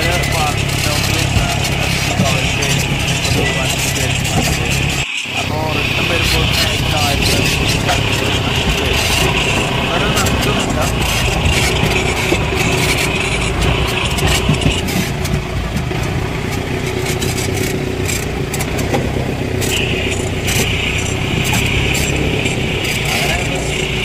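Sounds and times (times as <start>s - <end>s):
off-road vehicle engine running: 0.0s - 24.0s
vehicle knocks and rattles: 0.0s - 24.0s.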